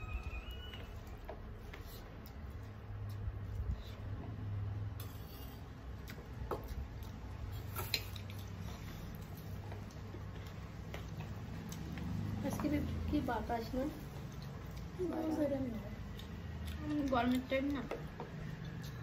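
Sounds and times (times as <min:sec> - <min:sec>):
soft squishing of food mixed by hand: 0:00.0 - 0:19.0.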